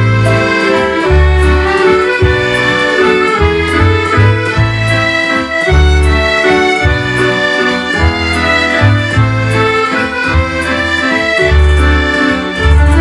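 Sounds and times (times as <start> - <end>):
accordion waltz with keyboard and drums: 0.0 - 13.0.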